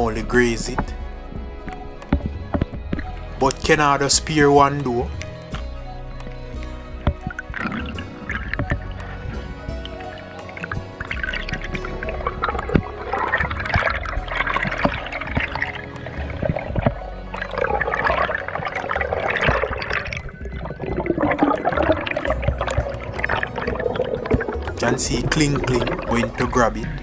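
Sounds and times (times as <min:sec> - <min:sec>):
water bubbling and gurgling: 0:00.0 - 0:03.7, 0:04.9 - 0:27.0.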